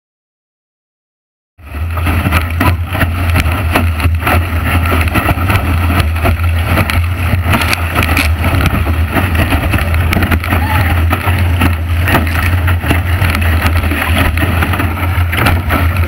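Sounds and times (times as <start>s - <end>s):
heavy wind buffeting microphone: 1.6s - 16.0s
rushing water: 1.6s - 16.0s.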